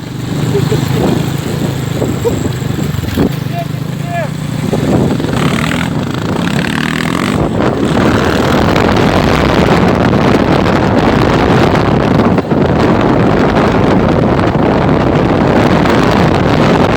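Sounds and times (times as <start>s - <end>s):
motorcycle engine running: 0.0s - 16.9s
wind buffeting microphone: 0.0s - 16.9s.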